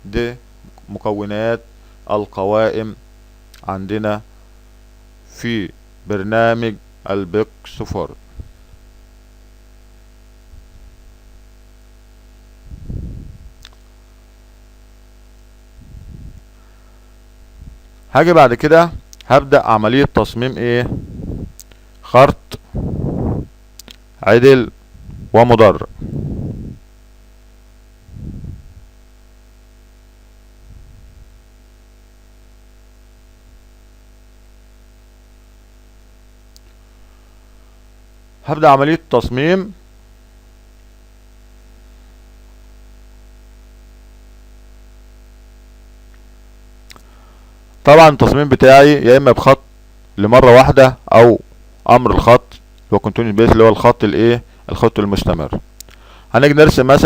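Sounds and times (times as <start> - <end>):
electrical mains hum and hiss: 0.0 - 57.0.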